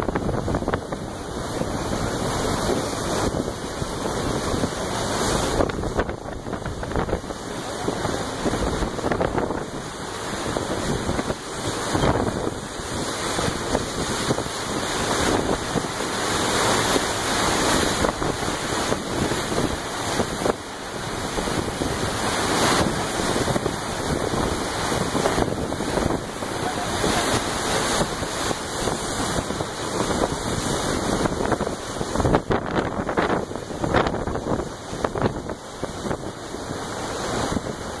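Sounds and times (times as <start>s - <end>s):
water rushing along boat hull: 0.0s - 38.0s
wind buffeting microphone: 0.0s - 38.0s.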